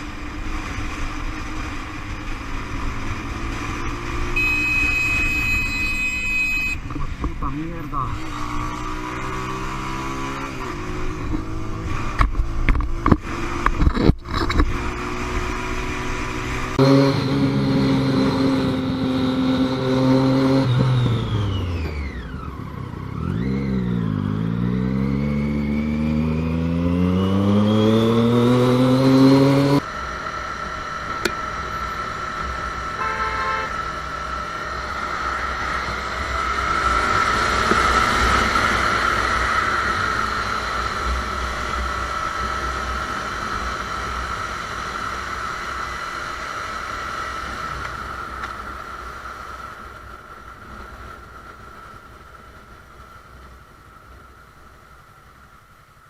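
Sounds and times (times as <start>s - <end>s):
engine drone with high whine: 0.0s - 56.0s
motorcycle engines running: 0.0s - 56.0s.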